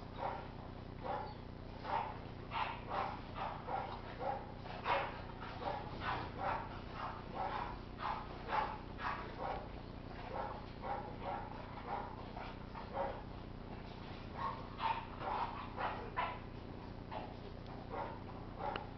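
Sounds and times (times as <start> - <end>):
dogs barking and yapping: 0.0 - 18.9.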